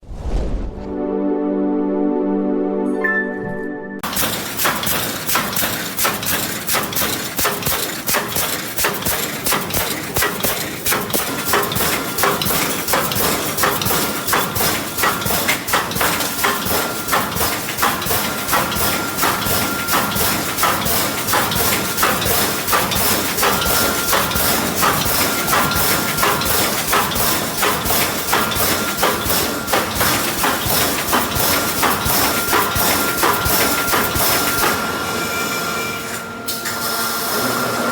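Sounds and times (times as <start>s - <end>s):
welding machine clanking: 4.0s - 34.9s.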